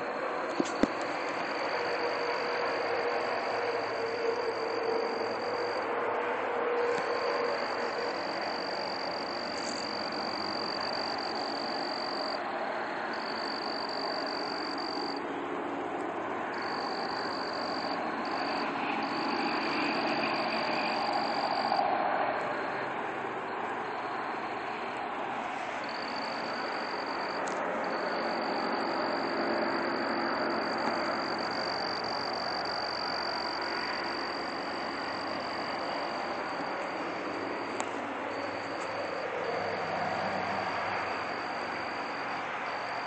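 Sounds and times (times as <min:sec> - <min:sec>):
constant high whine: 0:00.0 - 0:43.0
dense droning noise: 0:00.0 - 0:43.0.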